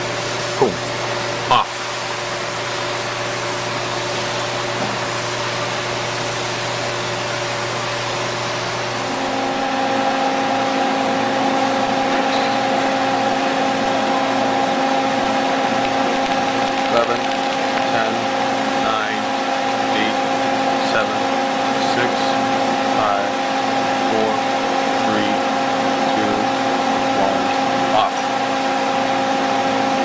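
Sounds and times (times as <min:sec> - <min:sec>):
induction heater hiss and hum: 0:00.0 - 0:30.0.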